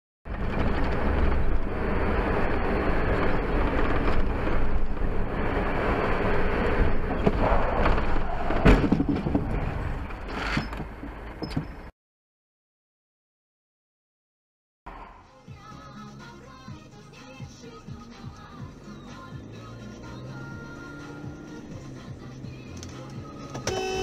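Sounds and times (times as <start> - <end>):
vehicle road and engine noise: 0.3 - 11.9, 14.9 - 24.0.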